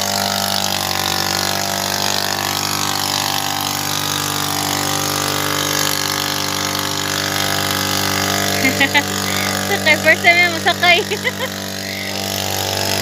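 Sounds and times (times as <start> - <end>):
small outboard motor running: 0.0 - 13.0.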